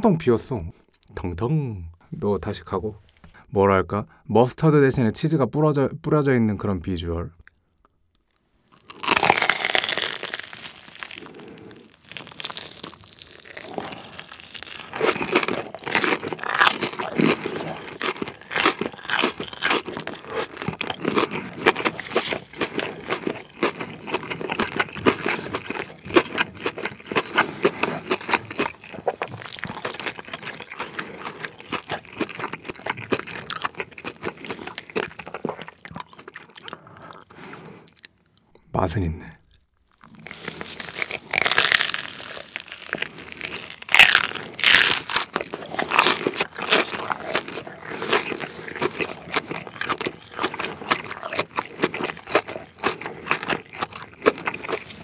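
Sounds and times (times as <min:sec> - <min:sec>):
crunchy biting and chewing: 0:08.7 - 0:38.2, 0:39.5 - 0:55.0.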